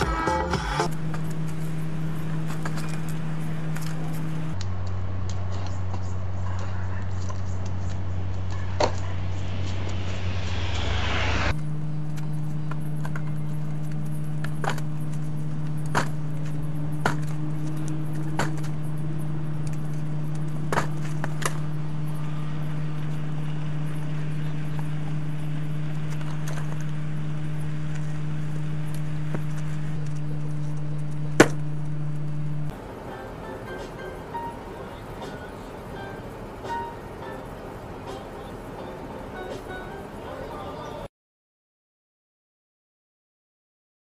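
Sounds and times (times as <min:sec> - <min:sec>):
low hum: 0:00.0 - 0:41.1.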